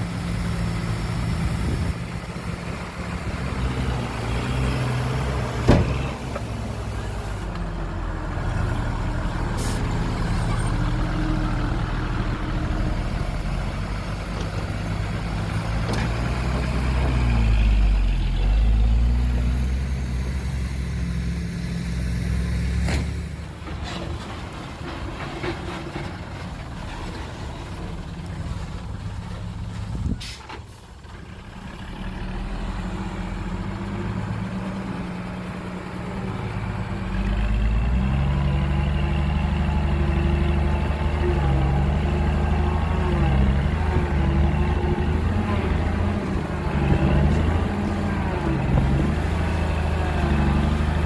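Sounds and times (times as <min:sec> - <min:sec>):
diesel engines working: 0:00.0 - 0:51.0.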